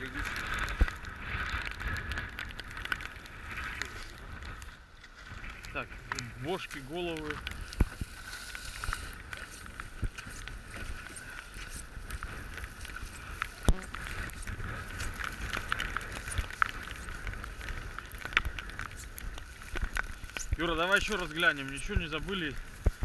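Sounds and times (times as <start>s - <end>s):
light clicks and knocks of gear: 0.0s - 23.0s.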